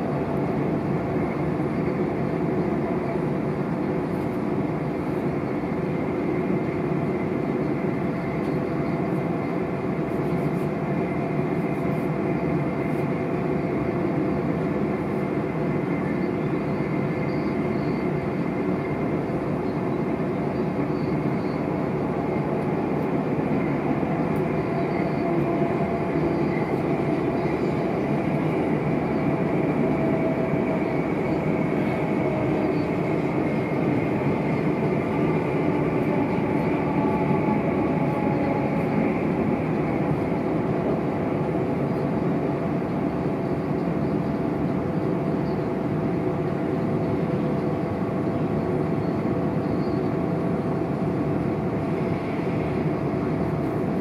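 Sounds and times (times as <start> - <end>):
faint steady whining tones: 0.0 - 54.0
train wheels rumbling on track: 0.0 - 54.0.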